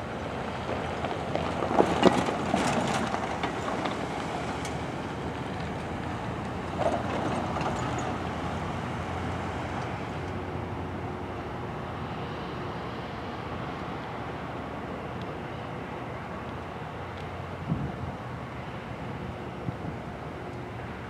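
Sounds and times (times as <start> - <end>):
diesel locomotive rumbling: 0.0 - 21.0.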